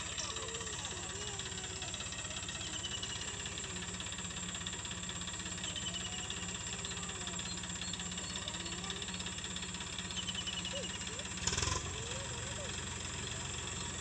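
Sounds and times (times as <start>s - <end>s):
faint chirps: 0.0s - 14.0s
low pulsing mechanical drone: 0.0s - 14.0s.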